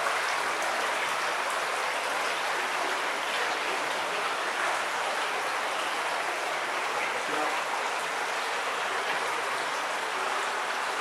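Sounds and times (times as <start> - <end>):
water rushing in a drain: 0.0 - 11.0.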